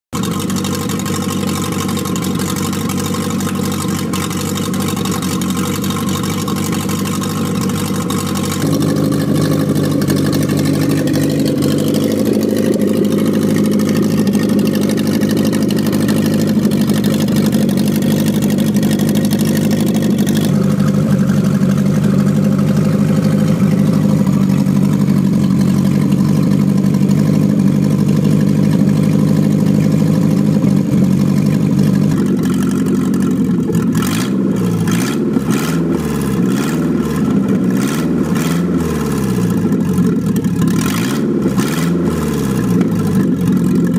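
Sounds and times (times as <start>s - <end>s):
engine running: 0.1s - 43.9s.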